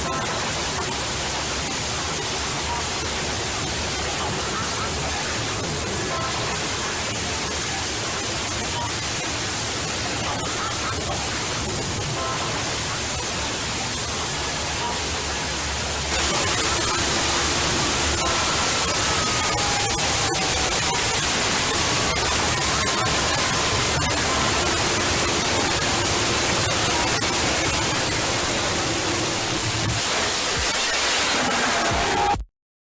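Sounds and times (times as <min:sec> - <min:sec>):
loud static hiss: 0:00.0 - 0:32.4.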